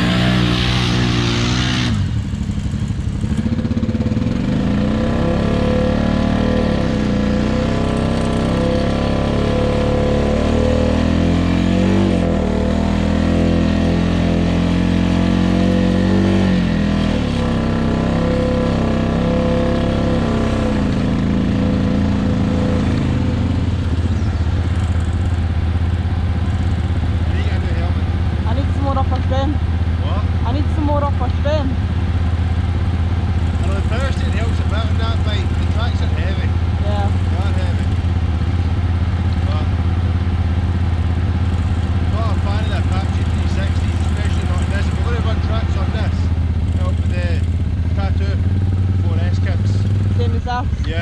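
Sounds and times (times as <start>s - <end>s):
quad bike engine revving: 0.0s - 51.0s.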